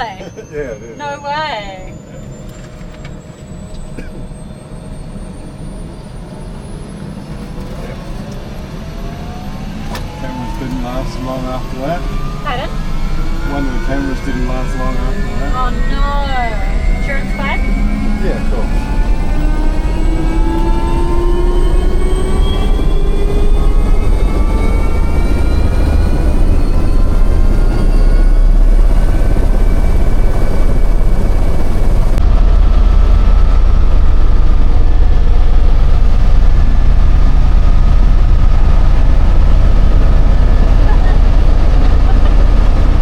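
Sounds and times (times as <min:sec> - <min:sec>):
helicopter running: 0:00.0 - 0:43.0.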